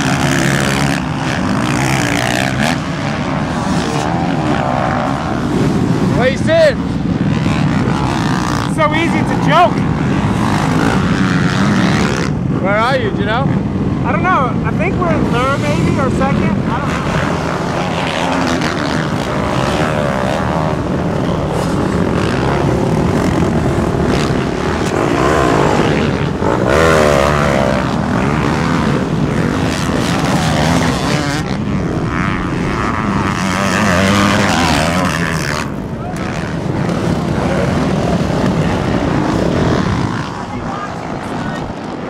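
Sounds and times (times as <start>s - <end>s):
dirt bike engines droning: 0.0s - 42.0s.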